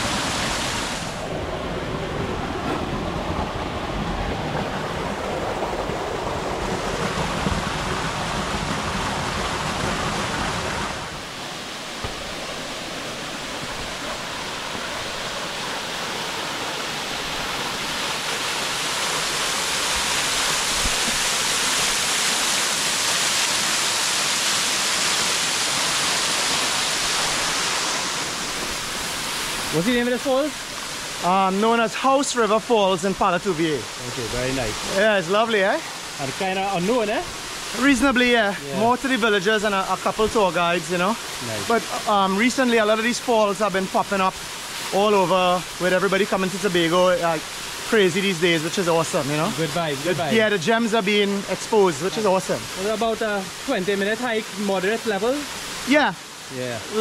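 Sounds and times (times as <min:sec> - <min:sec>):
bright water hiss: 0:00.0 - 0:01.3, 0:08.9 - 0:57.0
rushing river and waterfall: 0:00.0 - 0:57.0.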